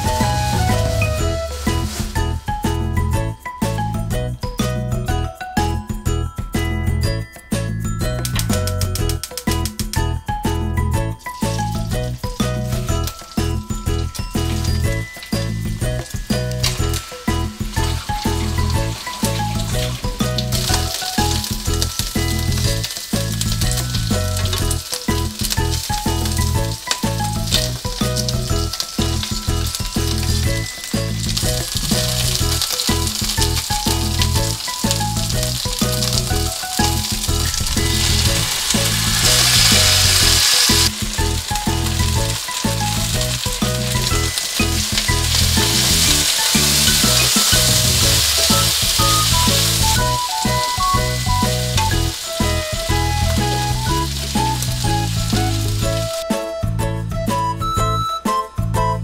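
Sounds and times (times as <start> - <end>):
chicken sizzling in frying pan: 0.0 - 3.0, 11.1 - 56.3.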